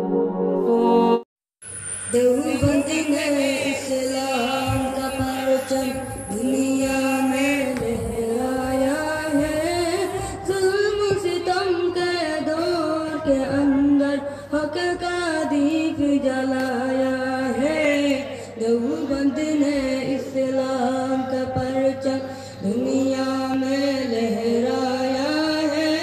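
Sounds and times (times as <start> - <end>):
boys singing over loudspeakers: 2.1 - 26.0.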